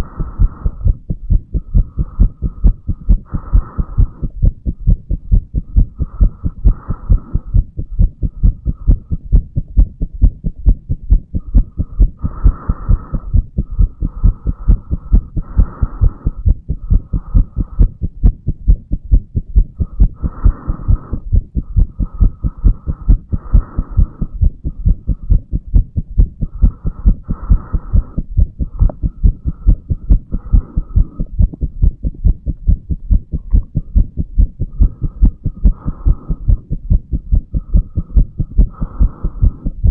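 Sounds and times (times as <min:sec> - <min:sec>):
heartbeat thumping: 0:00.0 - 0:39.9.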